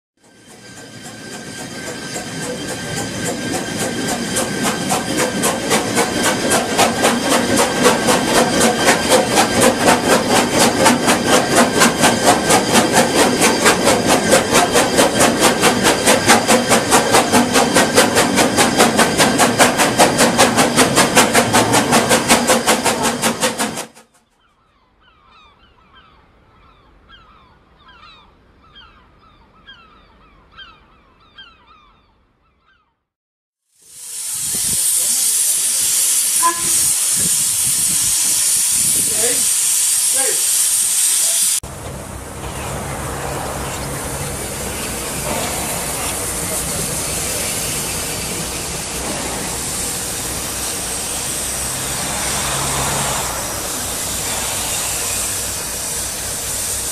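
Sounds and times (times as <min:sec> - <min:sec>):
steam locomotive exhaust beating: 0:00.2 - 0:24.0, 0:33.8 - 0:56.9.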